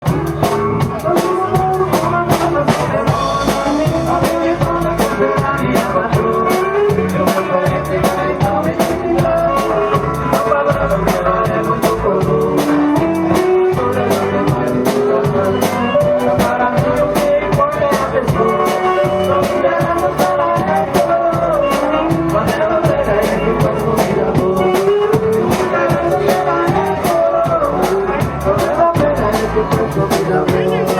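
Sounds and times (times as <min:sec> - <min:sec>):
bass: 0:00.0 - 0:30.9
drum kit beat: 0:00.0 - 0:30.9.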